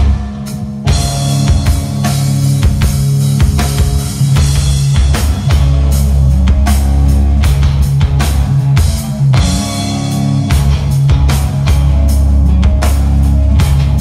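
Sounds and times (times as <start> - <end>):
drums and cymbals: 0.0 - 14.0
electric guitars and bass: 0.0 - 14.0.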